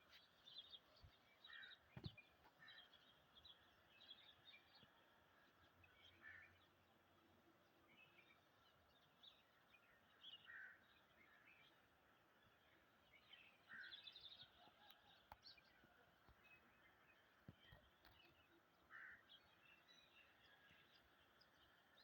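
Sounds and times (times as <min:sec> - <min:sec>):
low background hiss: 0:00.0 - 0:22.0.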